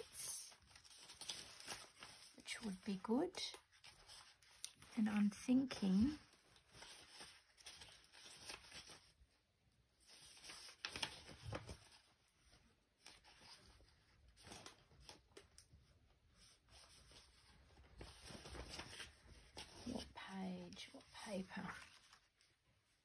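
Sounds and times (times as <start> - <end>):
paper pages rustling: 0.0 - 9.3, 10.0 - 23.0.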